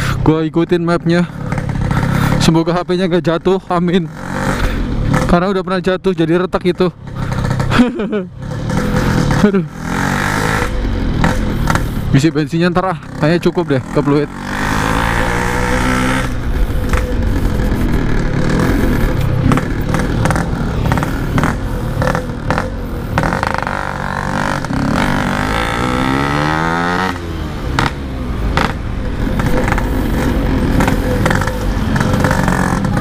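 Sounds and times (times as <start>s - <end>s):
two-stroke motorcycle engine revving: 0.0s - 33.0s.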